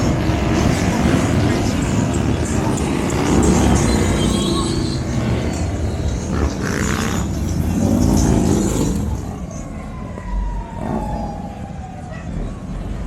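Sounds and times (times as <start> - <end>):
motorcycle engines revving: 0.0 - 12.9.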